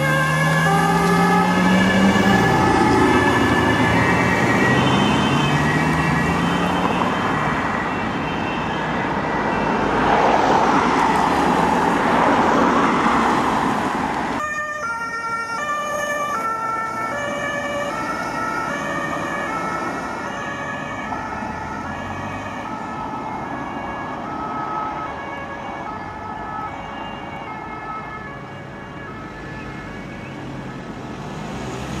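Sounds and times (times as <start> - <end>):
two-tone emergency siren: 0.0 - 13.4, 14.4 - 30.9
vehicle engines passing: 0.0 - 32.0.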